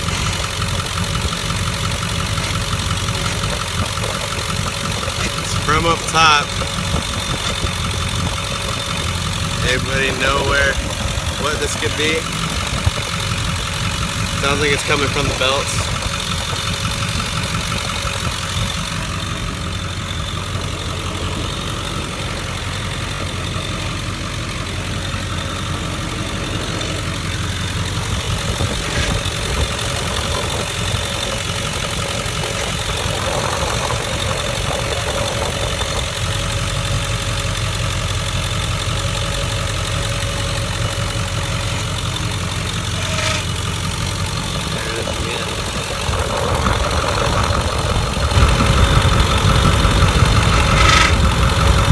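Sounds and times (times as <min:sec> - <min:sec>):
belt grinding noise: 0:00.0 - 0:51.9
diesel engine idling: 0:00.0 - 0:51.9.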